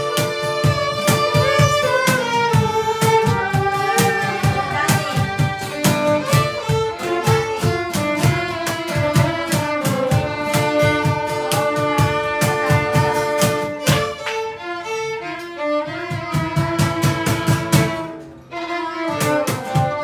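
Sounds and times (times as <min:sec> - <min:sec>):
strummed acoustic guitar: 0:00.0 - 0:20.0
violins playing melody: 0:00.0 - 0:20.0.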